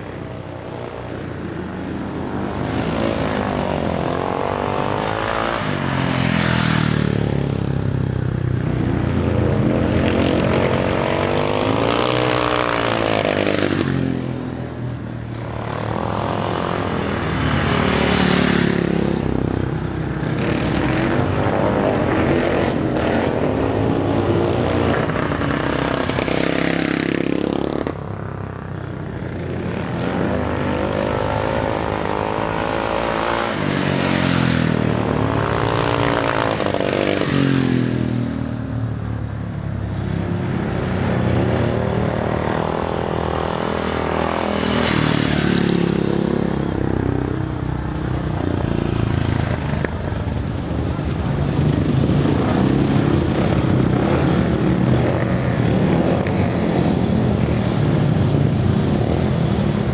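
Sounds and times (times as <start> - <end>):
motorcycle engine revving: 0.0 - 38.8, 39.7 - 59.9.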